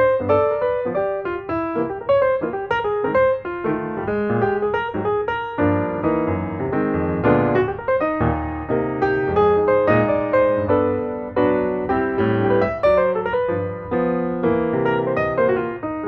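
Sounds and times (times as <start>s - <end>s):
piano tune: 0.0s - 16.0s.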